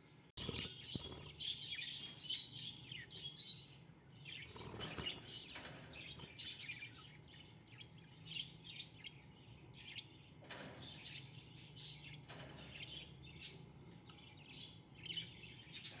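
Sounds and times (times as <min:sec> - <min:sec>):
budgerigars chirping: 0:00.4 - 0:13.6.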